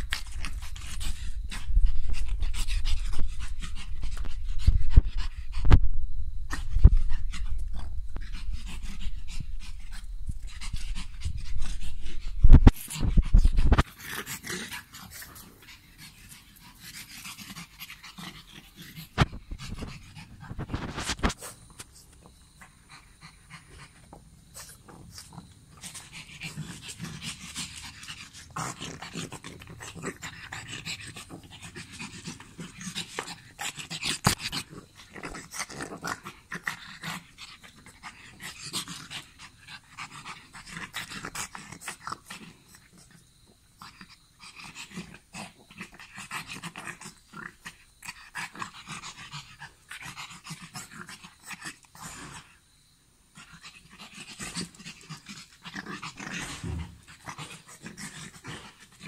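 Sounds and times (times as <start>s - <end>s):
dog panting and sniffing: 0.0s - 5.8s, 6.5s - 43.2s, 53.4s - 59.0s.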